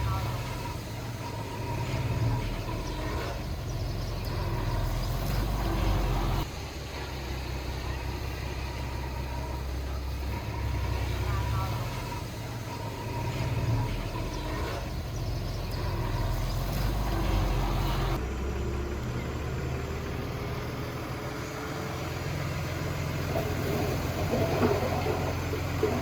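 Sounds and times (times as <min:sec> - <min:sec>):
heavy machinery diesel engine: 0:00.0 - 0:26.0.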